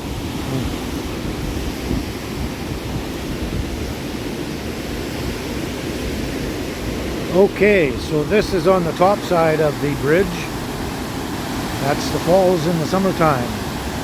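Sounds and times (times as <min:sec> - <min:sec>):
wind rumbling on microphone: 0:00.0 - 0:12.2
waterfall rushing: 0:00.0 - 0:14.0.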